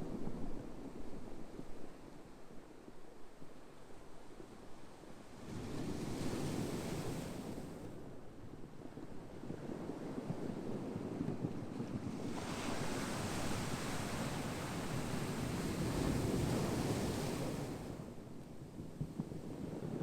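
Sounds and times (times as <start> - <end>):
low rumble of the sea: 0.0 - 20.0.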